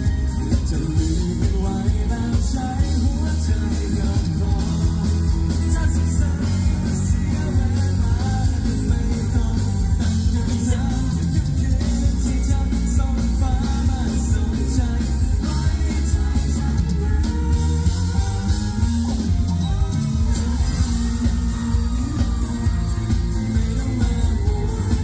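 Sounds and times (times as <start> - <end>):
person singing: 0.0 - 25.0
rock band playing: 0.0 - 25.0.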